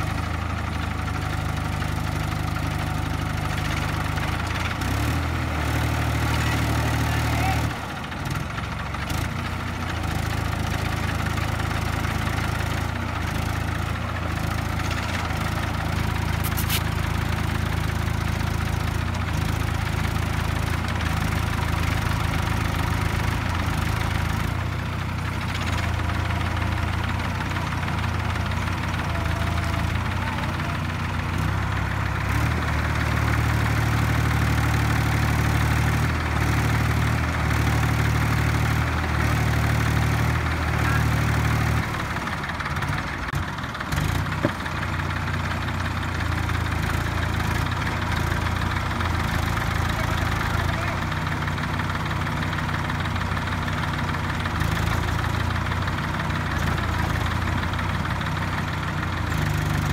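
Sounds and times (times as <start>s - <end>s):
diesel tractor engines running: 0.0s - 59.9s.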